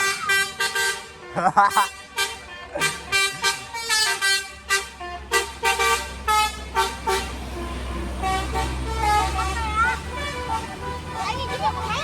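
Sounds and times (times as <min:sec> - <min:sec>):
bus engine rumbling: 0:00.0 - 0:12.0
musical bus horn tune: 0:00.0 - 0:12.0.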